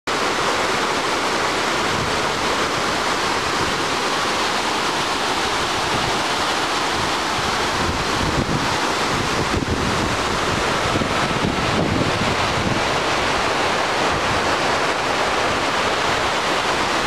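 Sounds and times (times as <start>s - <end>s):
water pouring over rock ledges: 0.1s - 17.0s.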